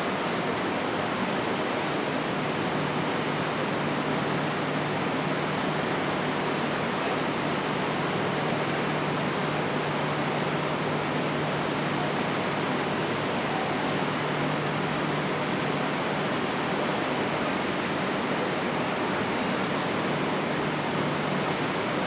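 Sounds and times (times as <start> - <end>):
constant low hum: 0.0 - 22.0
steady rushing noise: 0.0 - 22.0.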